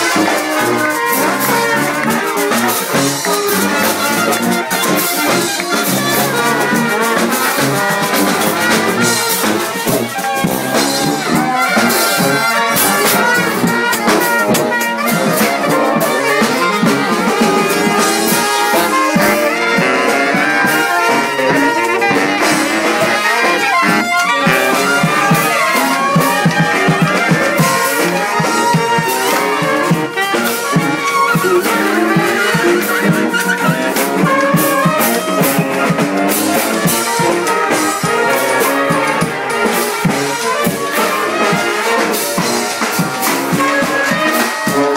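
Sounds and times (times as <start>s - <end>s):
street brass band playing: 0.0s - 44.9s.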